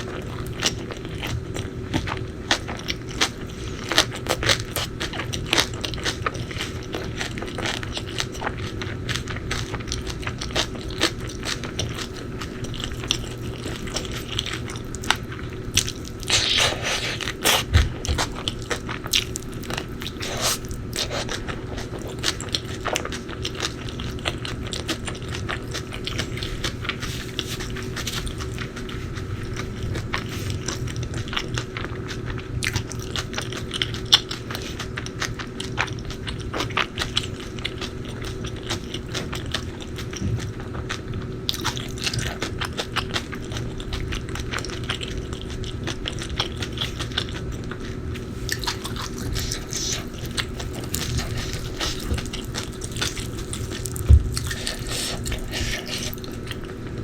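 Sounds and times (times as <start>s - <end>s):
biting and chewing crunches: 0.0s - 57.0s.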